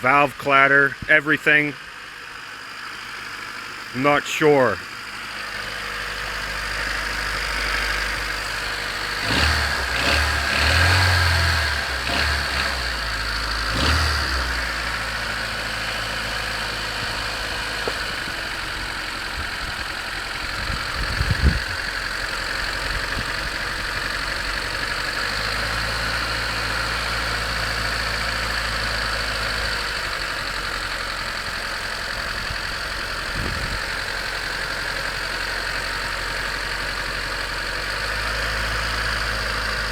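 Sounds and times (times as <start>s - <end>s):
car engine idling with clatter: 0.0s - 39.9s.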